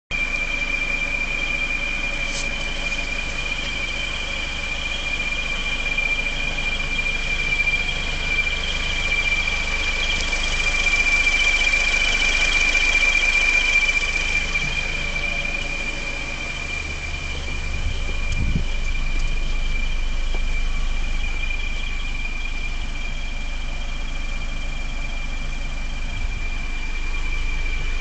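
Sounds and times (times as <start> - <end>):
car engine idling: 0.1 - 28.0
high-pitched whistle: 0.1 - 28.0.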